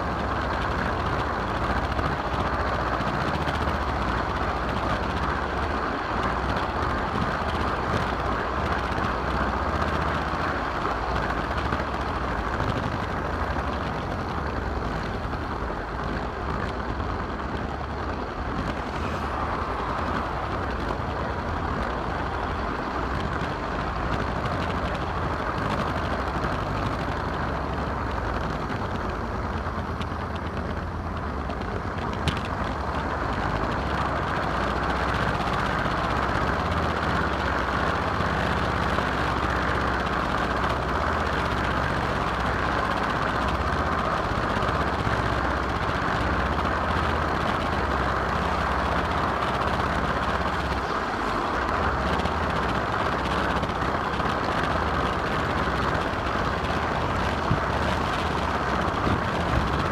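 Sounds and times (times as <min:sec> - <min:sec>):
model train wheels rolling on rail: 0:00.0 - 0:59.9.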